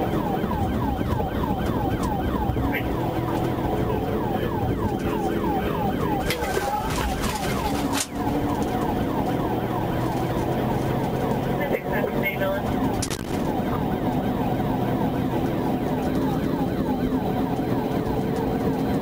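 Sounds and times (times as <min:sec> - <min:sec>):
engine and road noise: 0:00.0 - 0:19.0
police siren yelp: 0:00.0 - 0:19.0.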